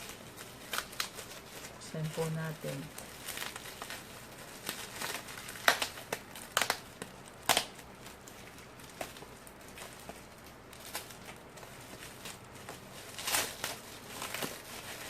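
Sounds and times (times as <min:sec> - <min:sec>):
plastic mailer crinkling: 0:00.0 - 0:15.0
plastic ripping: 0:00.0 - 0:15.0.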